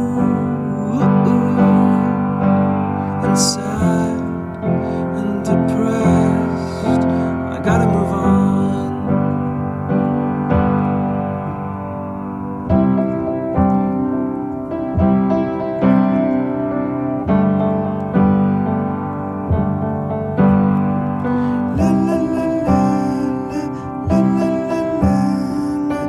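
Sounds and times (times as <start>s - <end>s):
piano playing chords: 0.0s - 26.0s.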